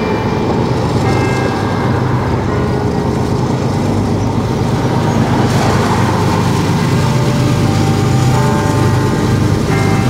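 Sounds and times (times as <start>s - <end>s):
diesel locomotive engines droning: 0.0s - 10.0s.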